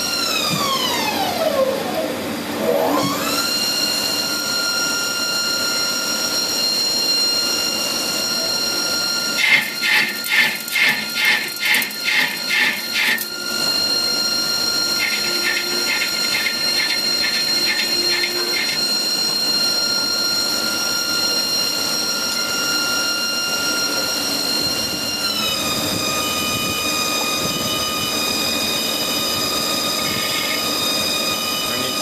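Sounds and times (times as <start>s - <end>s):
lathe spindle whining: 0.0s - 32.0s.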